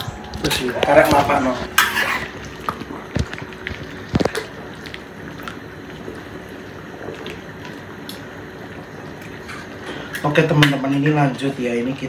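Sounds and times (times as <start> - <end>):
pot simmering with hiss: 0.0 - 12.0.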